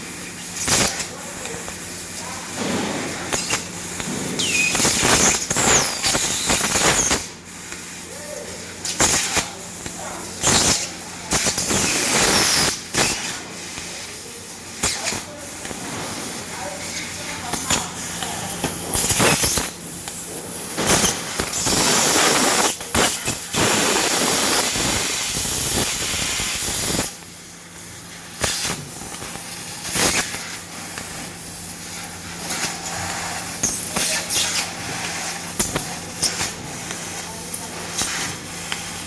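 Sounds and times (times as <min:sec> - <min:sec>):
laser cutter gas hiss: 0:00.0 - 0:39.0.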